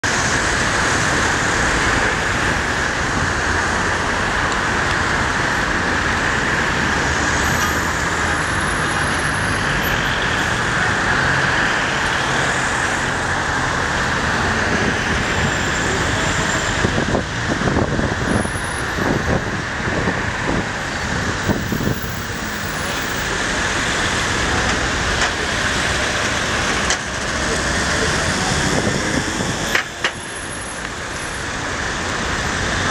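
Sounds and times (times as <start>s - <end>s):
city traffic: 0.0s - 32.9s.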